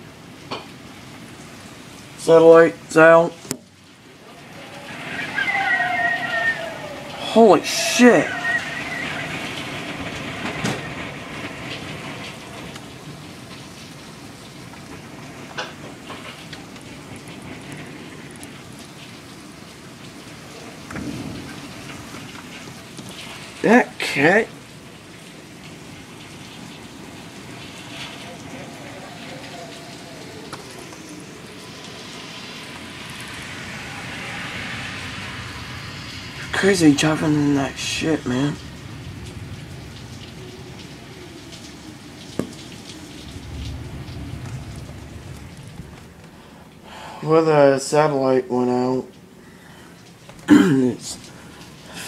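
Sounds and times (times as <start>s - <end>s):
car tyres hissing through water: 0.0s - 47.7s, 49.2s - 52.0s
heavy rain falling: 0.0s - 52.0s.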